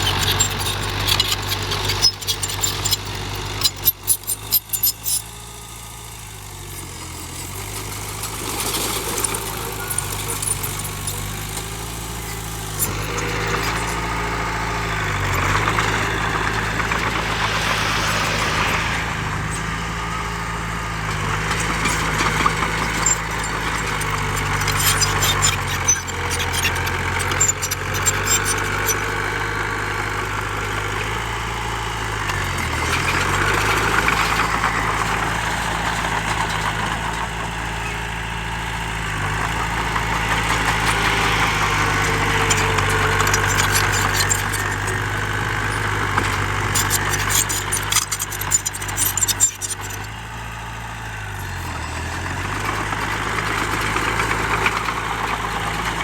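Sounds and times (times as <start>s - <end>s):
diesel construction machinery running: 0.0s - 56.0s.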